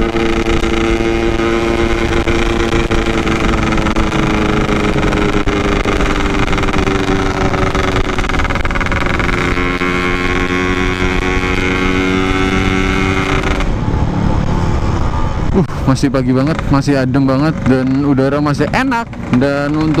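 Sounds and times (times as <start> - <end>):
two-stroke motorcycle engine cruising: 0.0 - 20.0.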